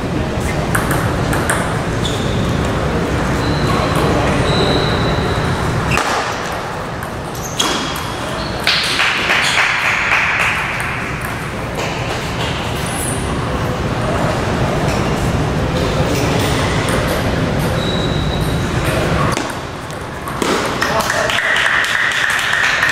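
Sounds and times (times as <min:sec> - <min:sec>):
low background noise: 0:00.0 - 0:22.9.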